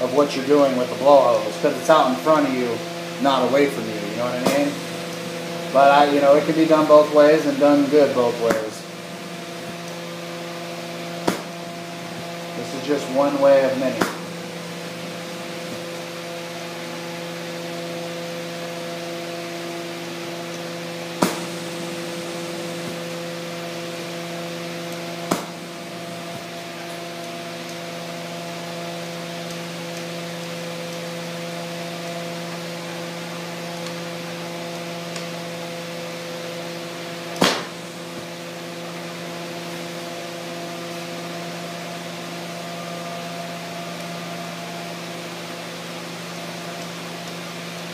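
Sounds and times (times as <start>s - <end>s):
glassworking torch hissing: 0.0s - 47.9s
steady hum: 0.0s - 47.9s.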